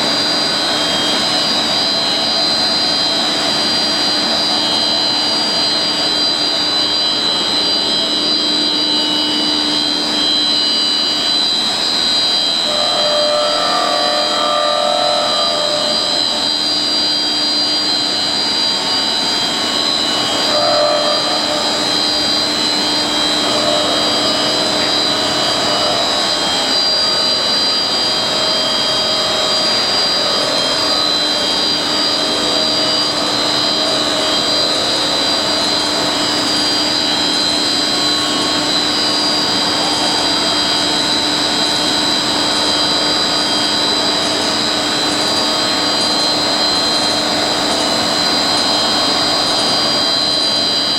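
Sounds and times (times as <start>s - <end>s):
high-pitched machine whines: 0.0s - 50.9s.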